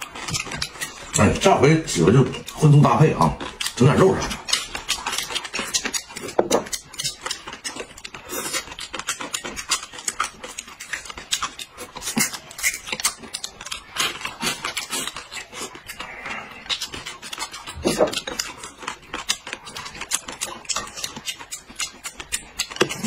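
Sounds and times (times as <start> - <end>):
people crunching and chewing food: 0.0 - 23.0.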